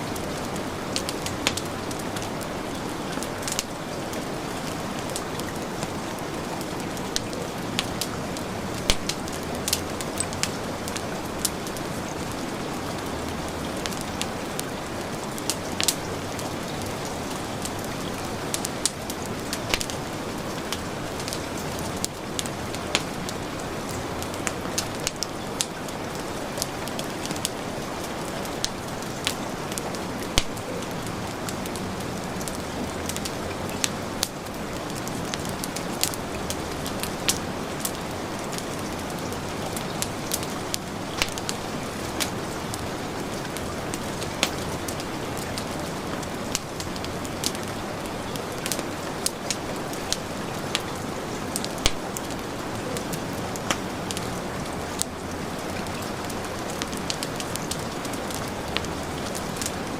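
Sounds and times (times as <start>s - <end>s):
heavy rain hissing: 0.0s - 59.9s
wood fire crackling: 0.0s - 59.9s.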